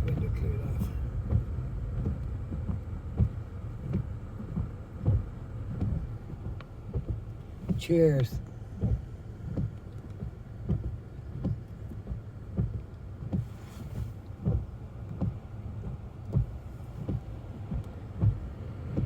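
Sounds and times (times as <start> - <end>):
road and engine rumble: 0.0 - 19.0
windshield wipers thumping: 0.0 - 19.0.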